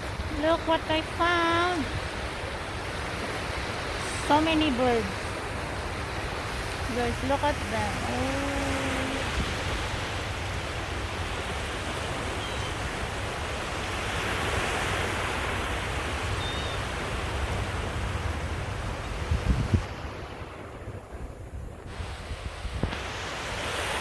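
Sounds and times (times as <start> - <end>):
surf rushing: 0.0 - 24.0
wind: 0.0 - 24.0
wind buffeting microphone: 0.0 - 24.0.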